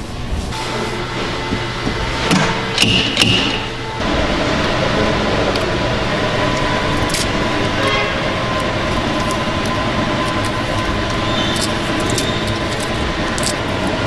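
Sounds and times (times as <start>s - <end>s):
faint constant whine: 0.0s - 14.0s
machinery noise: 0.0s - 14.0s.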